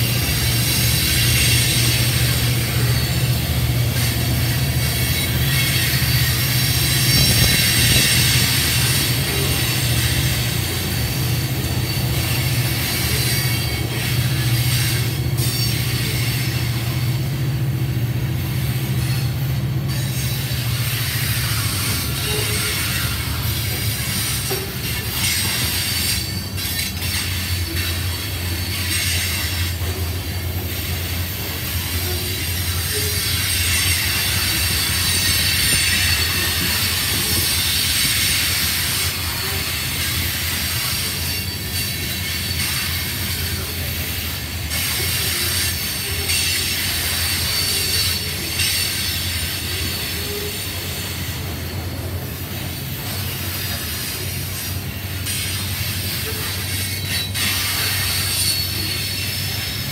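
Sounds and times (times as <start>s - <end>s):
high-pitched wheel squeal: 0.0s - 17.4s, 18.5s - 59.9s
train wheels rumbling on rail: 0.0s - 59.9s.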